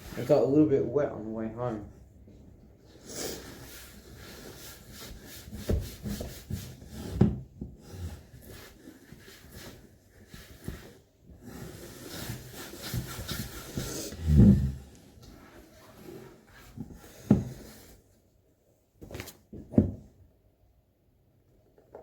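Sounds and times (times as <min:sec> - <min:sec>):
rubbing and handling noises: 0:00.0 - 0:18.4.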